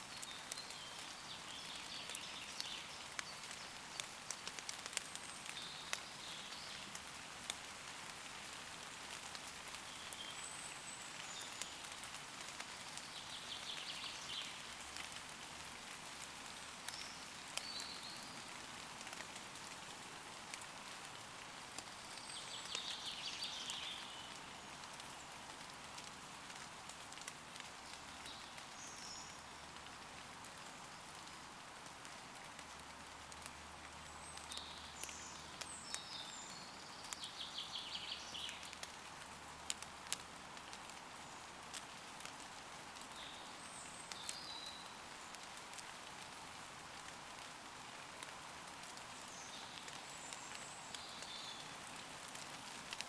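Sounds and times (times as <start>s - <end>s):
light rain falling on leaves: 0.0s - 53.0s.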